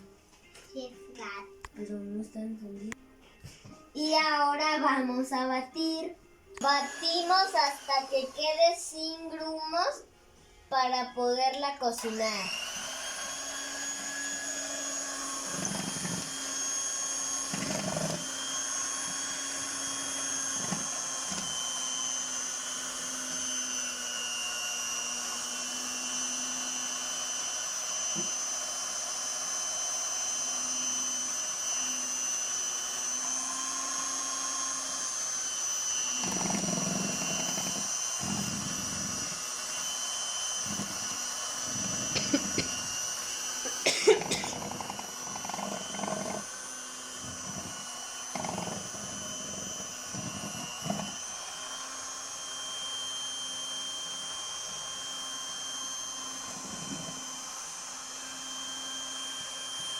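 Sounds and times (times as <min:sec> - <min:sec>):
electric mixer whining: 0:06.5 - 0:10.0, 0:10.6 - 0:59.9.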